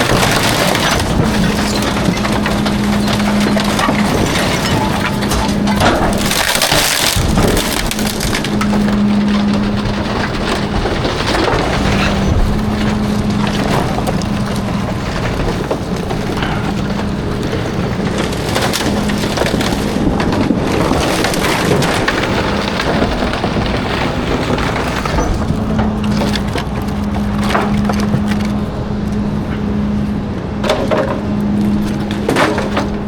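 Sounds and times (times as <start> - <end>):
compactor crushing waste: 0.0 - 33.0
engine and hydraulics hum: 0.0 - 33.0
wood cracking and splintering: 0.0 - 33.0.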